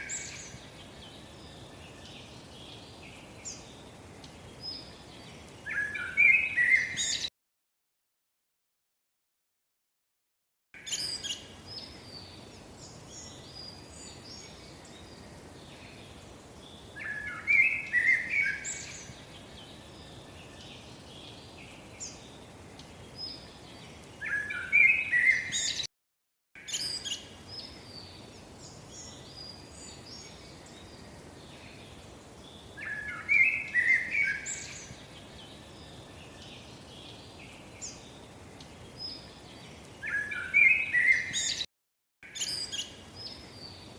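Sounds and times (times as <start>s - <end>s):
birds chirping and calling: 0.0s - 7.3s, 10.8s - 25.9s, 26.6s - 32.0s, 32.6s - 43.9s
faint steady hiss: 0.0s - 7.3s, 10.8s - 25.9s, 26.6s - 43.9s.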